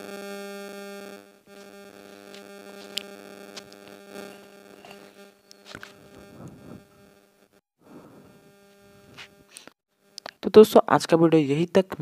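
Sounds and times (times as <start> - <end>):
buzzy electrical hum: 0.0 - 10.2.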